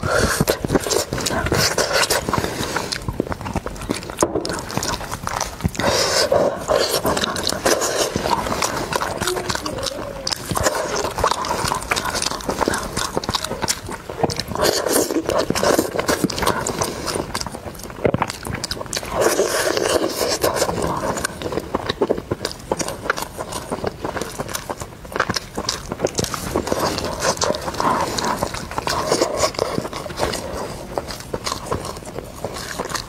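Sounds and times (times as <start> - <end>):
chewing meat: 0.0 - 33.0
clicking mouth sounds: 0.0 - 33.0
wet lip smacks: 0.0 - 33.0.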